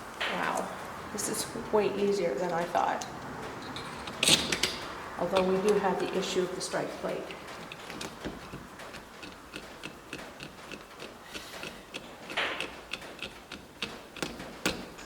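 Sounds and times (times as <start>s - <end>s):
metallic clicks and knocks: 2.4s - 15.0s.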